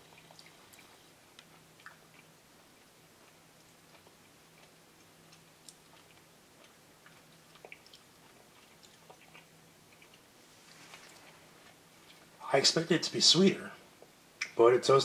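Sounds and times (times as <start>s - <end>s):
person chewing chocolate: 0.0s - 12.4s.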